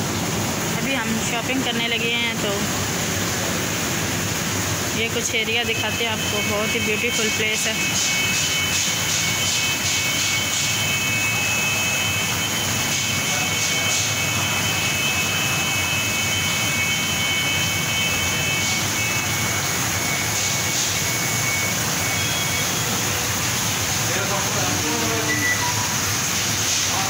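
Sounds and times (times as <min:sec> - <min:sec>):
indoor hall background noise: 0:00.0 - 0:27.0.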